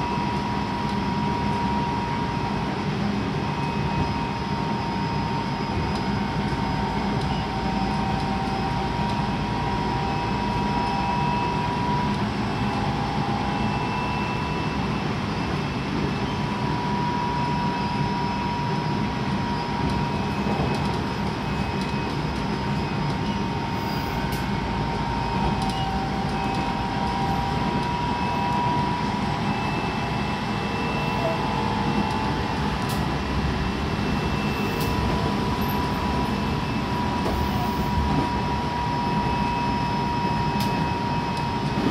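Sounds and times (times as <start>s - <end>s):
train traction motor whine: 0.0s - 41.9s
wheels rumbling on rail: 0.0s - 41.9s.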